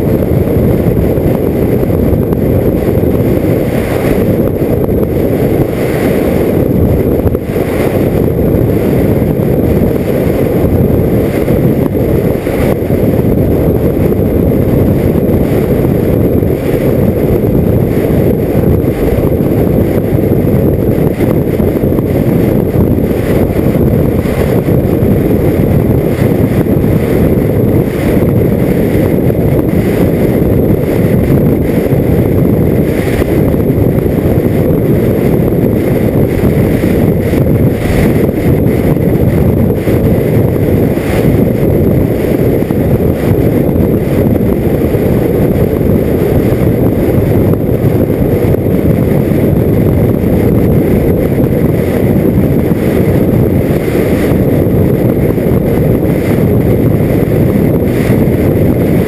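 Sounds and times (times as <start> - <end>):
motorcycle riding noise: 0.0 - 59.0
wind noise on microphone: 0.0 - 59.0.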